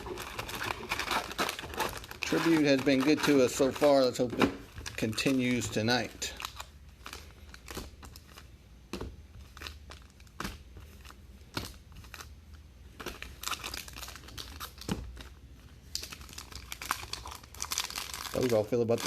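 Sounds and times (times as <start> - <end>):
plastic wrapping crinkling and tearing: 0.0 - 8.5, 9.4 - 19.0.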